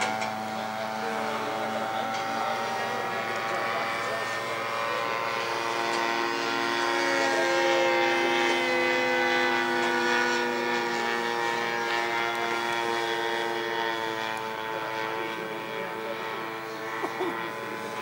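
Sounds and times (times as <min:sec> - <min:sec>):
model plane engine droning: 0:00.0 - 0:18.0.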